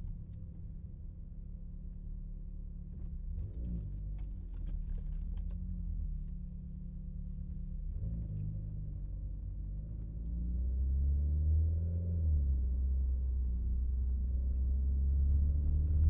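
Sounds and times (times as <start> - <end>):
car engine while driving: 0.0 - 16.0.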